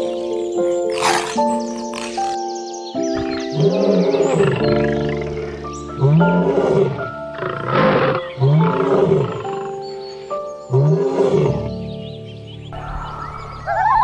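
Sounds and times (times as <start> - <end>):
background music held notes: 0.0 - 14.0
large animal calling: 0.8 - 2.4, 3.0 - 12.0, 12.7 - 14.0.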